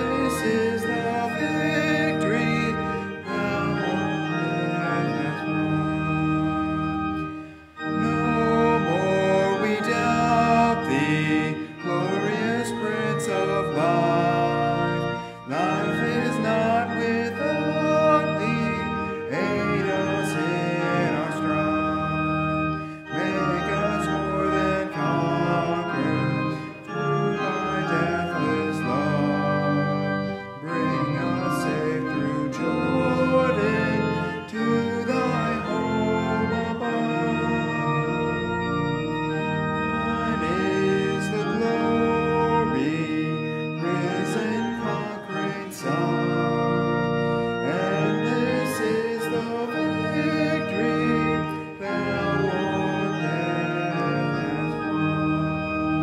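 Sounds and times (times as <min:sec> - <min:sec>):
man singing: 0:00.0 - 0:06.5, 0:07.8 - 0:38.6, 0:39.9 - 0:46.9, 0:47.6 - 0:55.4
church organ playing hymn: 0:00.0 - 0:56.0.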